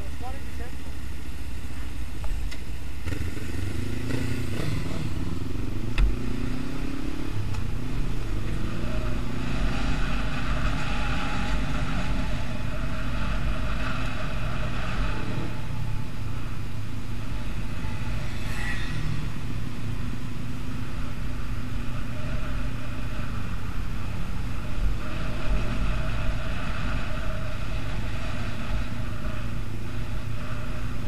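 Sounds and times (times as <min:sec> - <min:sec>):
wind and road noise: 0:00.0 - 0:31.0
motorcycle engine running: 0:02.9 - 0:31.0.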